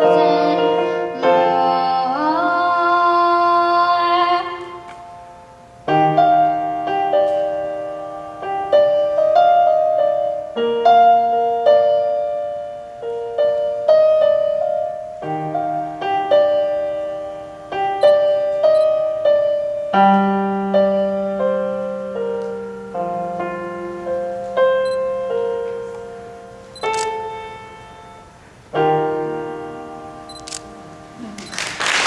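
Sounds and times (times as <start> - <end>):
slow piano notes and chords: 0.0 - 32.0.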